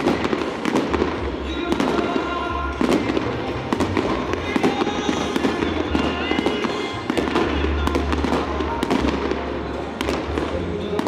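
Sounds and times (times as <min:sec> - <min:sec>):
fireworks bangs and crackles: 0:00.0 - 0:11.0
music playing: 0:00.0 - 0:11.0.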